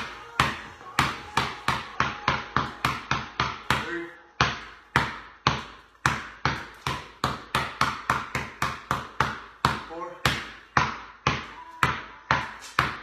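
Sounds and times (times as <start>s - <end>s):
basketball bouncing on concrete: 0.0s - 13.0s.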